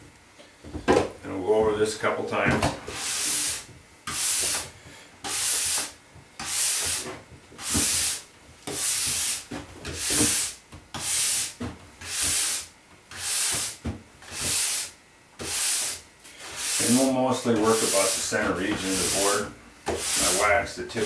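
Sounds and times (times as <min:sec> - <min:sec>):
wire brush scrubbing snowboard base: 0:02.9 - 0:04.6, 0:05.2 - 0:21.0.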